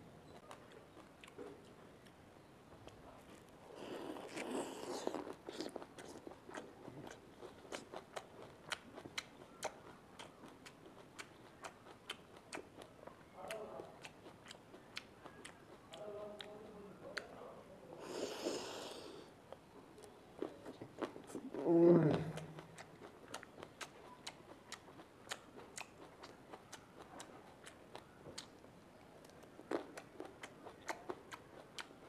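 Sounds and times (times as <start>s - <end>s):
biting grapes: 2.8s - 17.4s, 18.0s - 32.0s
wet crunchy chewing: 2.8s - 17.4s, 18.6s - 32.0s.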